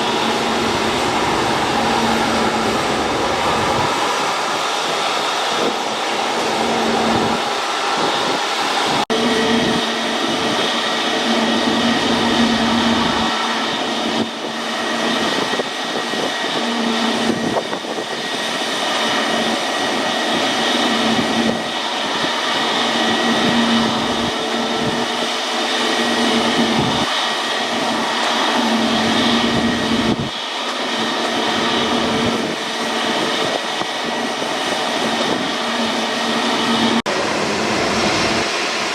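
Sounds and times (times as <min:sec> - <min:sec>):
high steady whine: 0:00.0 - 0:38.9
jet engines roaring: 0:00.0 - 0:38.9.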